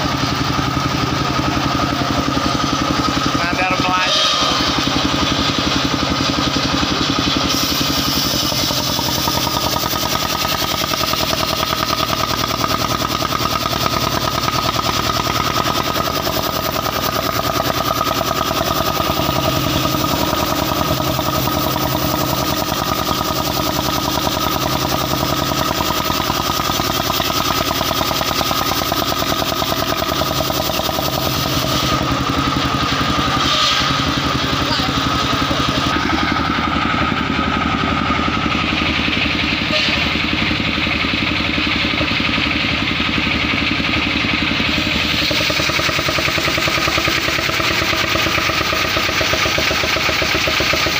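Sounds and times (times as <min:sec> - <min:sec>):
sawmill engine pulsing: 0:00.0 - 0:50.9.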